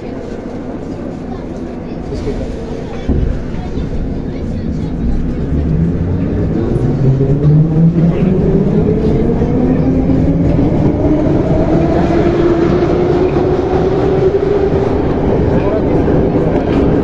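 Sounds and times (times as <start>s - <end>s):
wheels rumbling on track: 0.0s - 17.0s.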